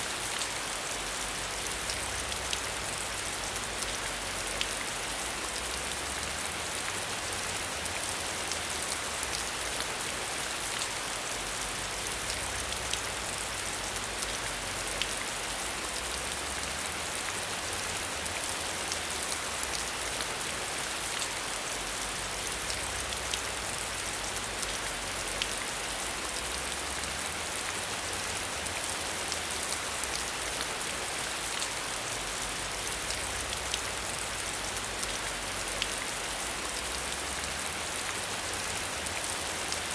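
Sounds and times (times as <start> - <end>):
rain behind a window: 0.0 - 39.9.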